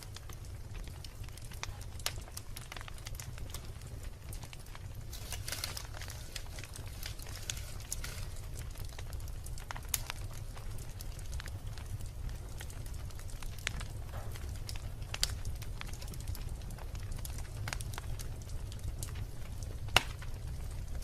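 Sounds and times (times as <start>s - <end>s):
logs crackling and popping: 0.0s - 21.0s
low rumble of flames: 0.0s - 21.0s.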